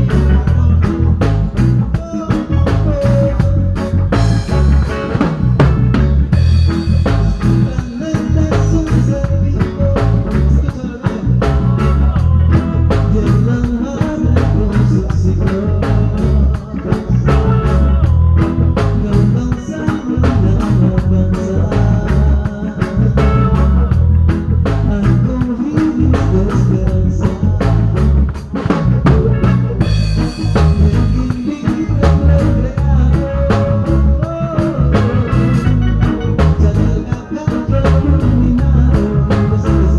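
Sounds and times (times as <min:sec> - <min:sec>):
person singing: 0:00.0 - 0:05.3, 0:06.9 - 0:24.0, 0:24.6 - 0:28.2, 0:29.1 - 0:39.9
band music: 0:00.0 - 0:39.9
drum kit beat: 0:00.0 - 0:39.9.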